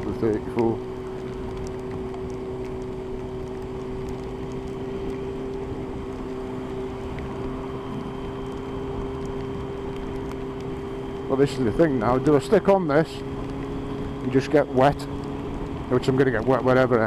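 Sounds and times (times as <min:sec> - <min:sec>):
motorcycle engine droning: 0:00.0 - 0:17.0
wet road noise: 0:00.0 - 0:17.0.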